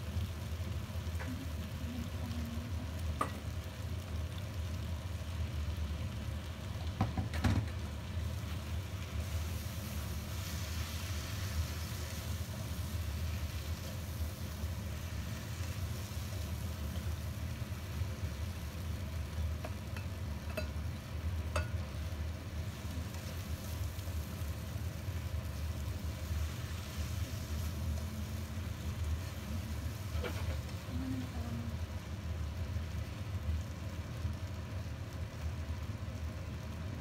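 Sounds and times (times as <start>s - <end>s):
food sizzling in a wok: 0.0s - 37.0s
steady low hum: 0.0s - 37.0s.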